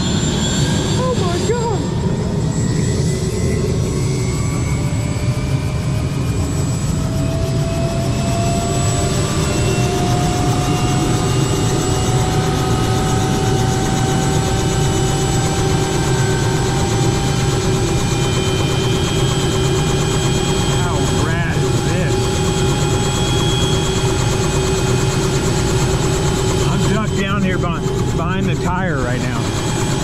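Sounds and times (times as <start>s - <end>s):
helicopter rotor drone: 0.0s - 30.0s.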